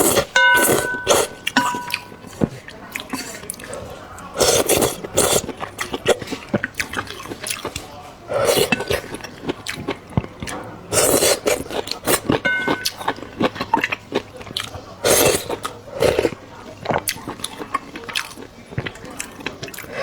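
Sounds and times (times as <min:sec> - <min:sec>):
chewing and mouth clicks: 0:00.0 - 0:20.0
slurping noodles: 0:00.0 - 0:20.0.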